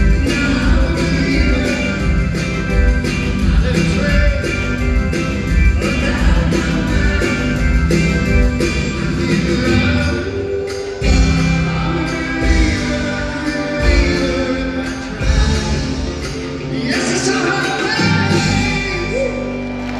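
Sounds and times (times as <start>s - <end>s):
upbeat jive music with singing: 0.0s - 19.9s.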